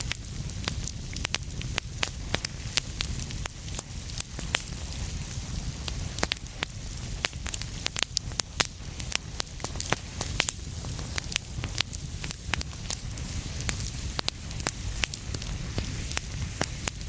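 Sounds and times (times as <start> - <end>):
fire crackling and popping: 0.0 - 17.0
wood fire rumbling and hissing: 0.0 - 17.0.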